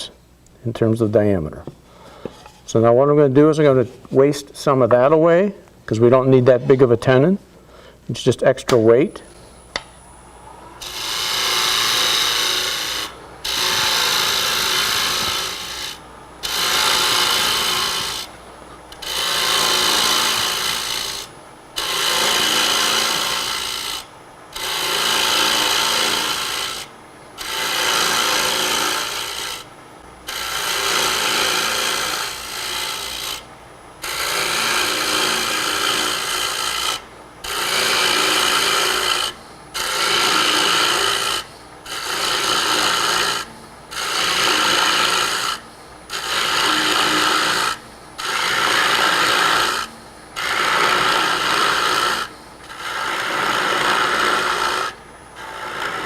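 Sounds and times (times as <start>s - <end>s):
lathe tool scraping wood: 10.5s - 56.0s.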